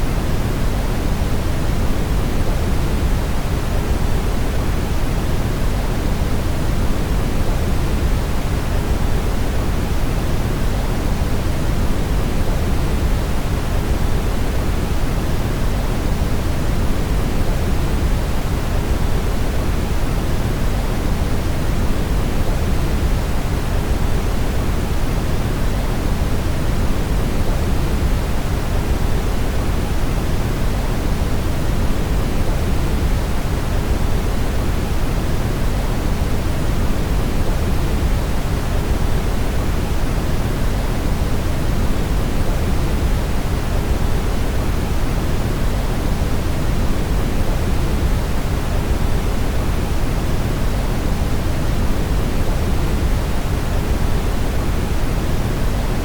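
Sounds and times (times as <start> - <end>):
steady brown noise: 0.0 - 56.0.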